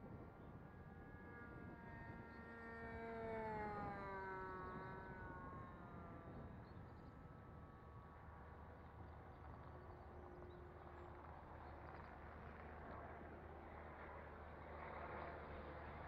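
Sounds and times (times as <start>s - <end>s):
model airplane engine fly-by: 0.0s - 16.0s.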